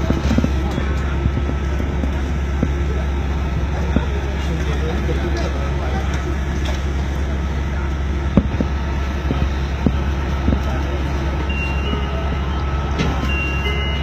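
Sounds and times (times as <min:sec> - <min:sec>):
monorail car rumbling: 0:00.0 - 0:14.0.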